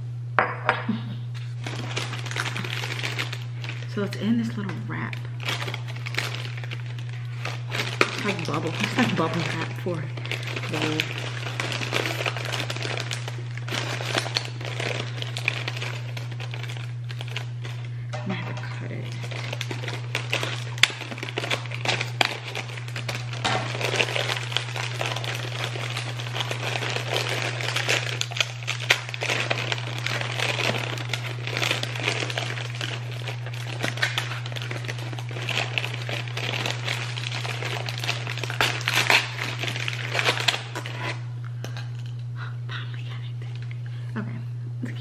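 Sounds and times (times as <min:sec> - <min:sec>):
steady low hum: 0:00.0 - 0:45.0
plastic bag crinkling: 0:01.4 - 0:44.0.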